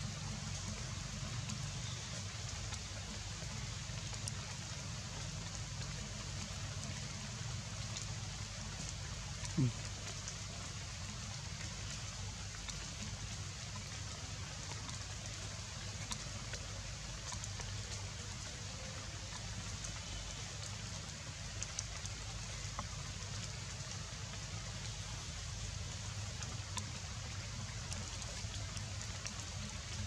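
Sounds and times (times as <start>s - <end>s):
forest ambient hiss: 0.0s - 30.0s
faint ticks: 0.1s - 30.0s.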